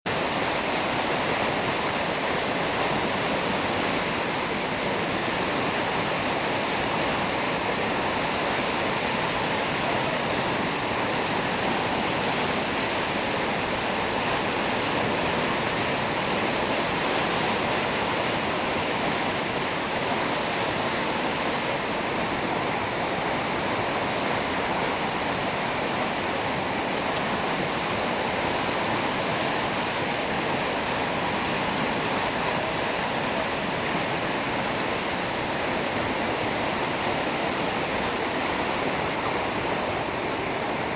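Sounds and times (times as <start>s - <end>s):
floodwater rushing: 0.1s - 40.9s.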